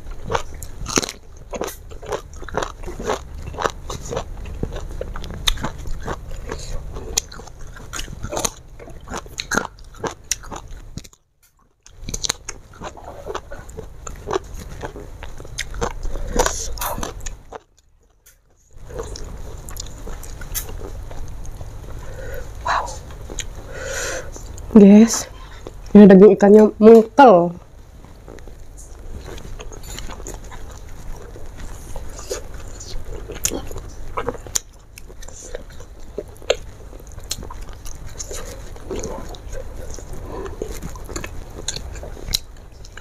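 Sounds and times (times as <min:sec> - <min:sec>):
crunching and chewing vegetables: 0:00.0 - 0:26.0, 0:26.6 - 0:43.0.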